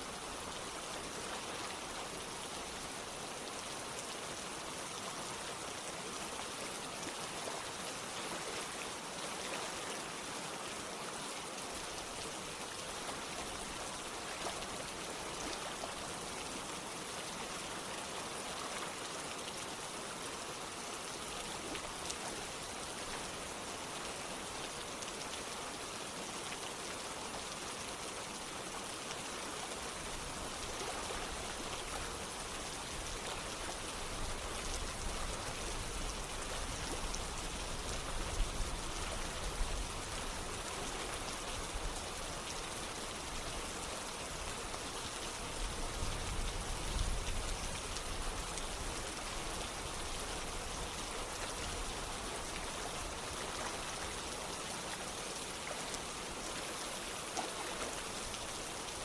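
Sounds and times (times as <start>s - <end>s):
running water: 0.0s - 59.0s
steady rain: 0.0s - 59.0s.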